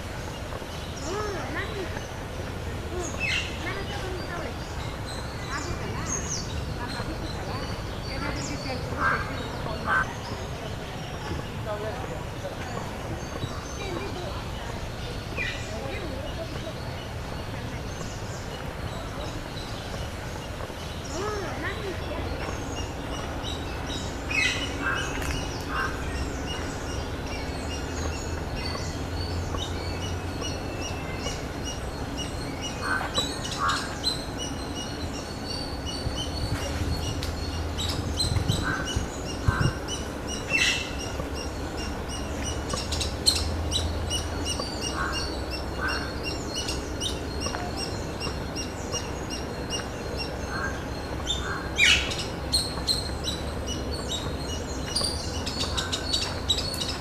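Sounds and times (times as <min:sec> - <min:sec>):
many birds chirping: 0:00.0 - 0:57.0.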